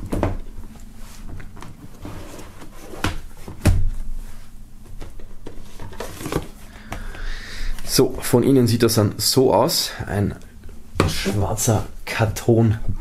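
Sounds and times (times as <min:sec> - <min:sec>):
plastic cases and cardboard rustling: 0:00.0 - 0:08.2, 0:10.1 - 0:12.3.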